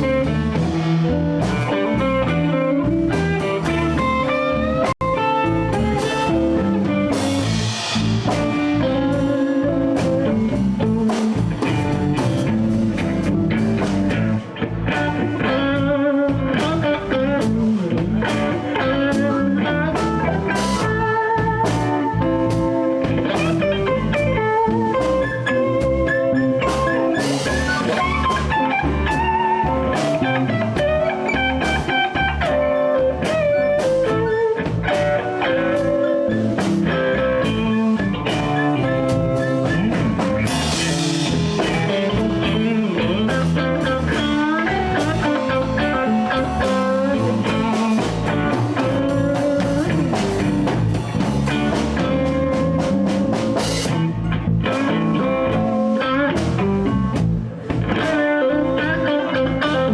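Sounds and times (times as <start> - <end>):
bending lead guitar notes: 0.0 - 59.9
live blues band: 0.0 - 59.9.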